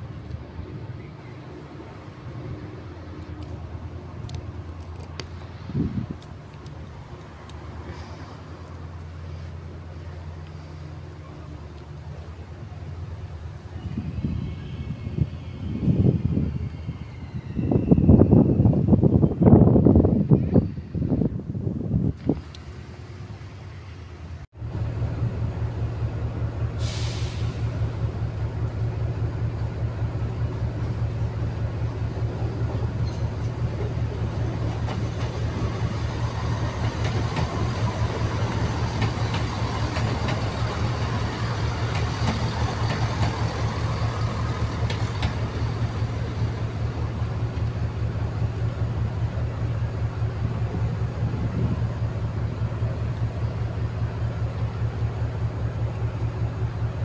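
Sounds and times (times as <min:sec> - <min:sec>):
diesel train engines throbbing: 0:00.0 - 0:57.0
passing train wheel rumble: 0:00.0 - 0:57.0.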